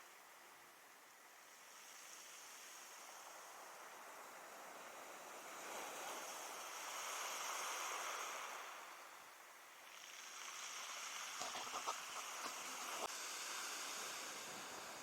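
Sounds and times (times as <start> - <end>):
surf washing on beach: 1.6 - 15.0.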